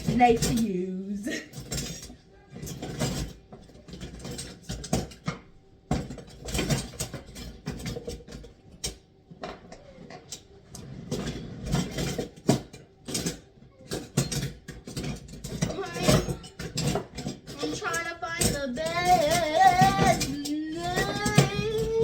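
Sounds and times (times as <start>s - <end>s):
metal utensils clattering: 0.0s - 22.0s.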